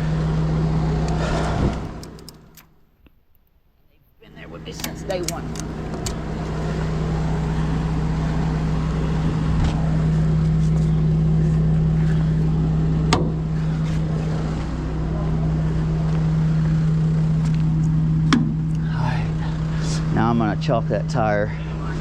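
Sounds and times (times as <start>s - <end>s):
diesel engine idling: 0.0s - 2.6s, 4.2s - 22.0s.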